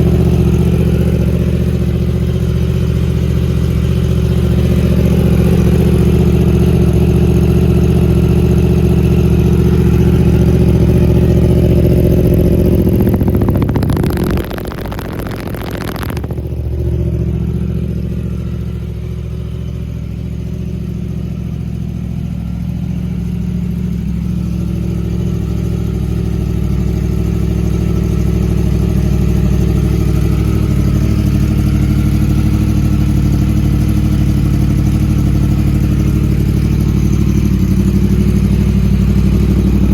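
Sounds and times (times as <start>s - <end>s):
dense engine rattle: 0.0s - 39.9s
engine running steadily: 0.0s - 39.9s.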